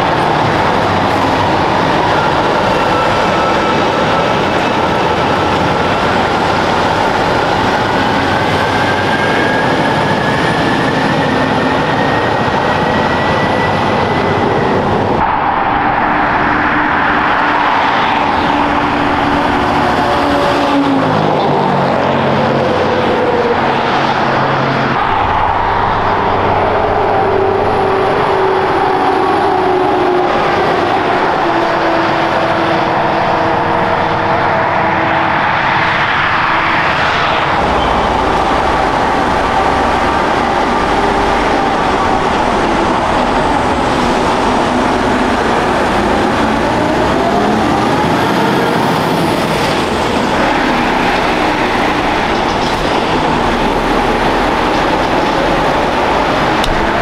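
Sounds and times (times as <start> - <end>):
heavy trucks passing: 0.0 - 57.0.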